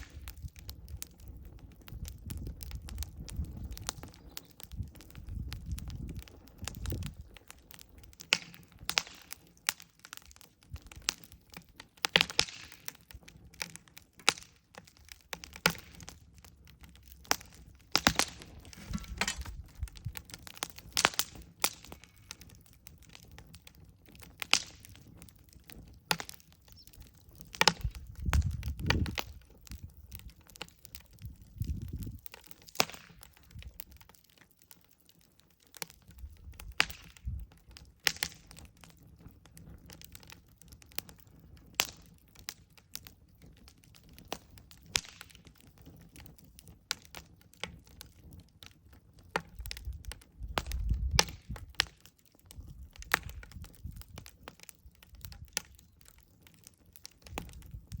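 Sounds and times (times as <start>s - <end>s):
campfire crackling and popping: 0.0s - 58.0s
low fire rumble: 0.0s - 58.0s.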